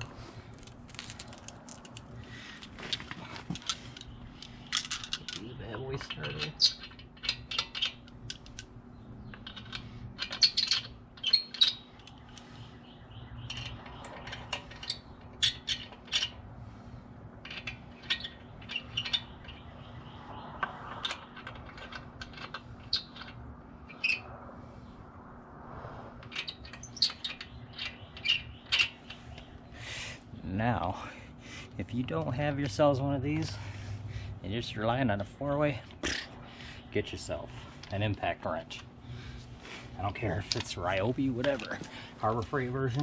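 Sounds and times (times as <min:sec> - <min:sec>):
lug nuts clicking and rattling: 0:00.0 - 0:16.5, 0:17.3 - 0:24.2, 0:26.2 - 0:30.2, 0:34.6 - 0:43.0.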